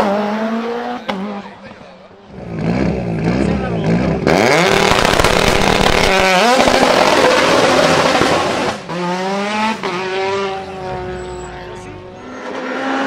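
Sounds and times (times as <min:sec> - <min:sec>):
turbocharged car engine accelerating: 0:02.3 - 0:13.0.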